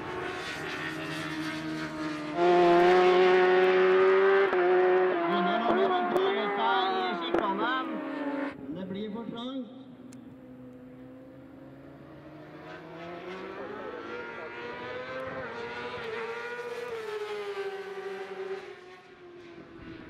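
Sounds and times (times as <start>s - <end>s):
motorcycle engines at high revs: 0.0s - 8.6s, 10.2s - 20.0s.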